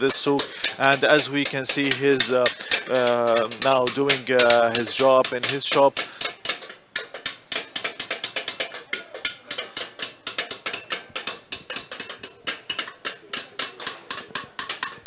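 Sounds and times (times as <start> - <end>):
hand hammers tapping on copper: 0.0 - 15.0.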